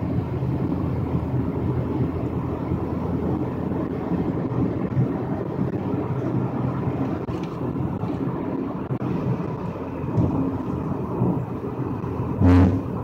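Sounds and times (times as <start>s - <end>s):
road and engine rumble inside car: 0.0s - 13.0s.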